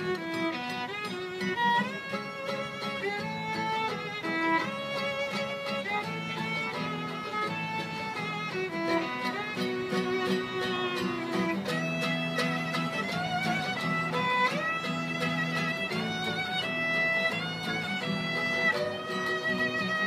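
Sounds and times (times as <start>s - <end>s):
strummed acoustic guitar chords: 0.0s - 20.0s
violin melody: 0.0s - 20.0s.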